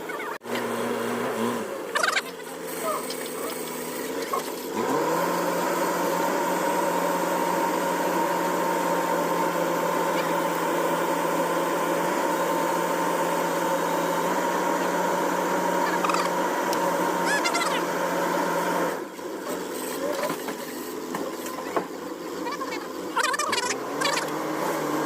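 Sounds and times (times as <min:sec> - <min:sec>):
vehicle engine revving: 0:00.4 - 0:20.3, 0:22.4 - 0:25.0.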